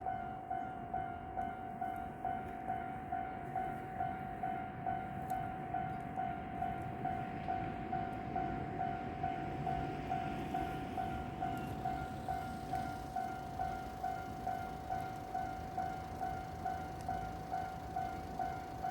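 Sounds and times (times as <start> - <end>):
level crossing warning bell: 0.0 - 18.9.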